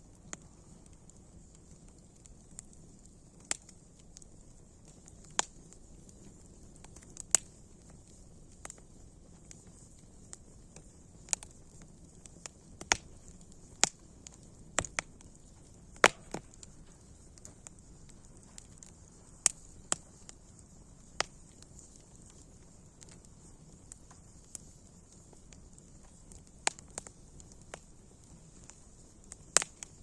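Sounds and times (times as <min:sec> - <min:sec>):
faint steady hiss: 0:00.0 - 0:30.0
wood fire crackling: 0:00.0 - 0:30.0.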